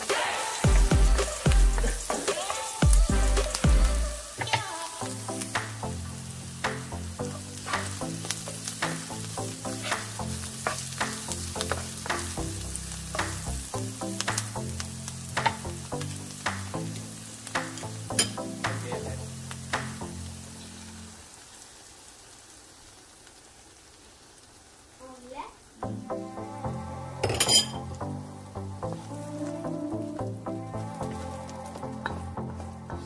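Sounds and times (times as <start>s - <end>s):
onion and garlic sizzling in oil: 0.0s - 33.0s.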